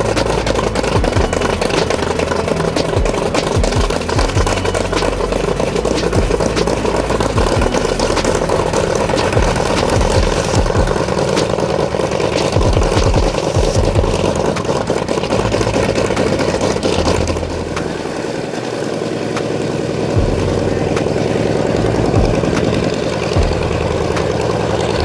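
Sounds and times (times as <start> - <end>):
radial engine idling: 0.0 - 25.0.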